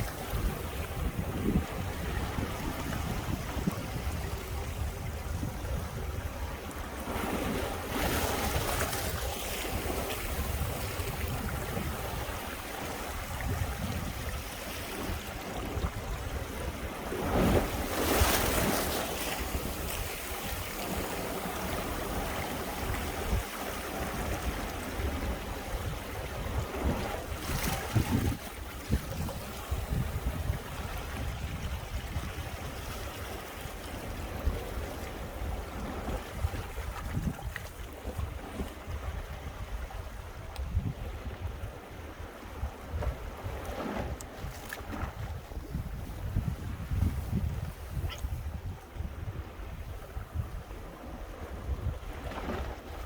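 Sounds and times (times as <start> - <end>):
sea waves breaking over rocks: 0.0 - 53.0
wind buffeting microphone: 0.0 - 53.0.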